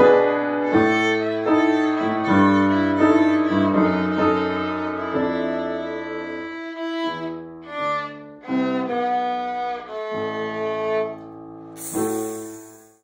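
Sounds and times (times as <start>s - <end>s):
violin playing: 0.0s - 12.5s
piano chords: 0.0s - 13.0s.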